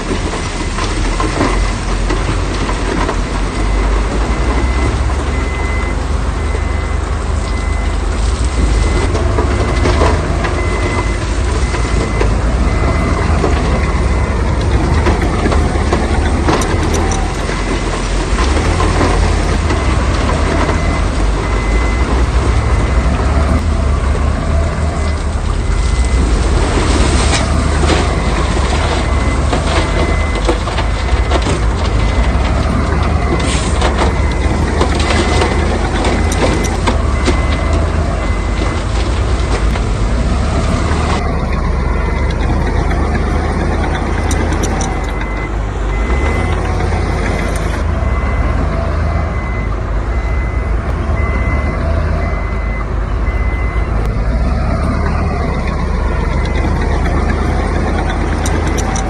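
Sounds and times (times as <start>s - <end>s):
heavy machinery diesel rumble: 0.0s - 59.0s
reversing alarm beeping: 0.0s - 59.0s.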